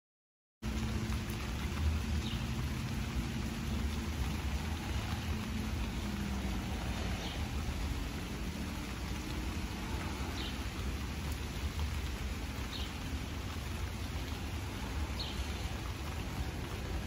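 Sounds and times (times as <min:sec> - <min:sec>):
continuous low rumble: 0:00.6 - 0:17.0
steady rain falling: 0:00.6 - 0:17.0.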